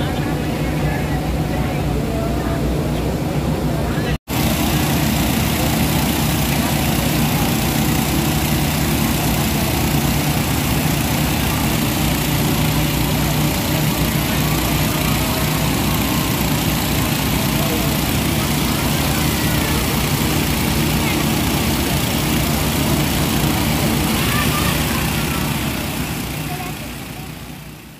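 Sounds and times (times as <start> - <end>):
pump engine running: 4.2 - 27.9.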